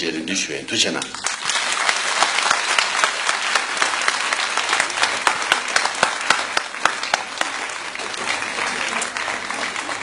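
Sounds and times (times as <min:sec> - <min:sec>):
audience applauding: 0:01.1 - 0:10.0.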